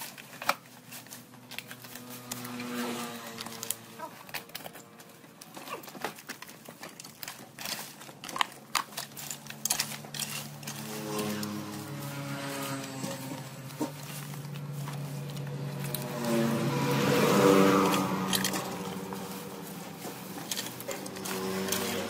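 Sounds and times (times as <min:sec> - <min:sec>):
small petrol engine drone: 0:00.0 - 0:22.0.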